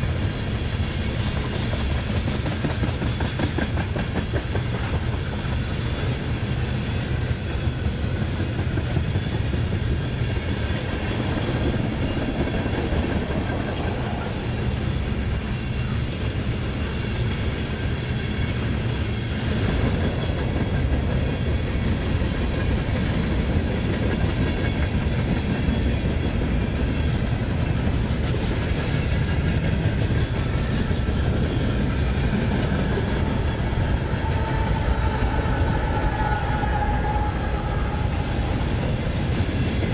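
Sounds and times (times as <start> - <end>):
freight train rumbling: 0.0 - 39.9
wheels clattering on rails: 0.0 - 39.9.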